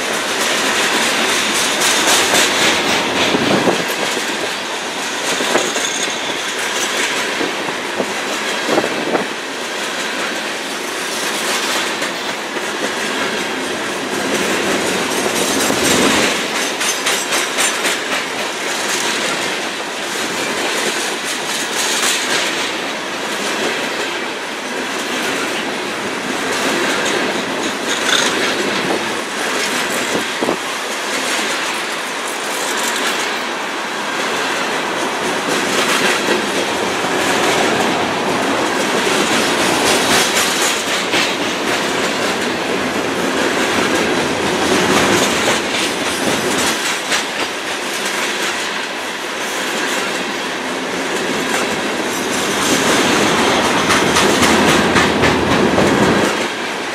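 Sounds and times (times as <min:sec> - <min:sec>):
freight train cars rolling past: 0:00.0 - 0:56.9
steel wheels clicking over rail joints: 0:00.0 - 0:56.9.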